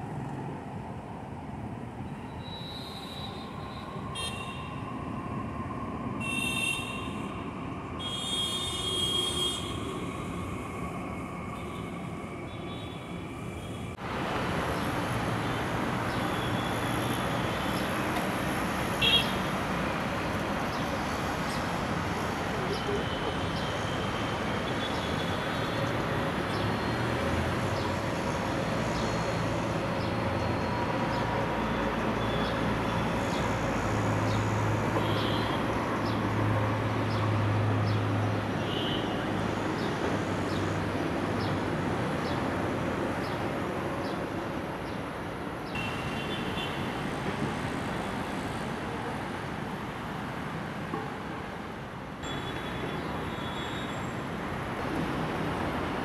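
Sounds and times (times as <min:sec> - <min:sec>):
city road traffic: 0:00.0 - 0:56.0.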